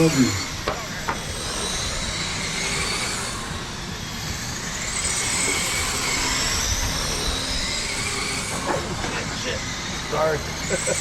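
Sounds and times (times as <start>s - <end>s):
radio-controlled car motors whining: 0.0s - 11.0s.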